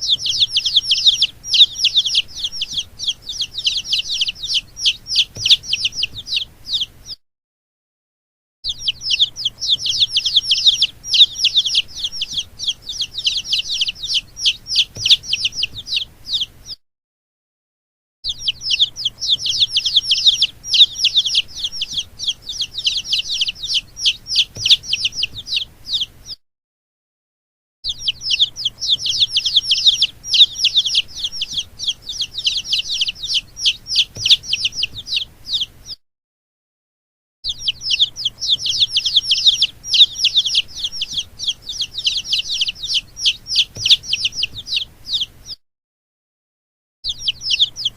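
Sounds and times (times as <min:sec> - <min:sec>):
baby chicks peeping: 0:00.0 - 0:07.2, 0:08.7 - 0:16.8, 0:18.3 - 0:26.4, 0:27.8 - 0:36.0, 0:37.4 - 0:45.6, 0:47.0 - 0:47.9.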